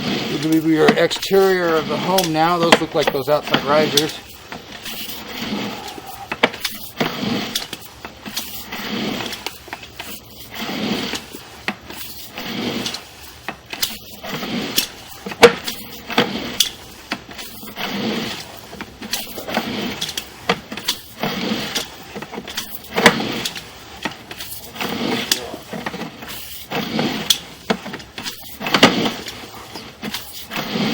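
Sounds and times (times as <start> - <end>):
cable rubbing and scraping: 0.0 - 30.9.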